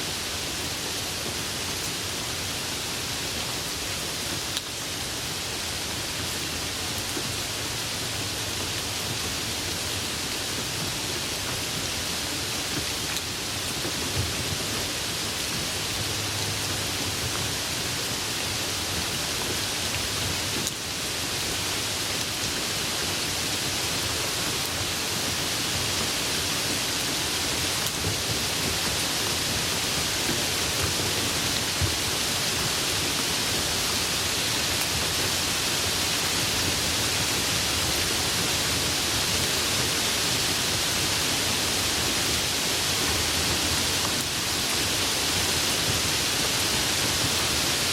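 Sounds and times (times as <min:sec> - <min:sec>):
light rain falling: 0:00.0 - 0:47.9.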